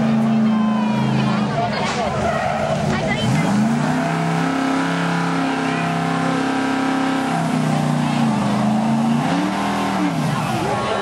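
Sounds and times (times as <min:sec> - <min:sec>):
truck engine revving high: 0:00.0 - 0:11.0.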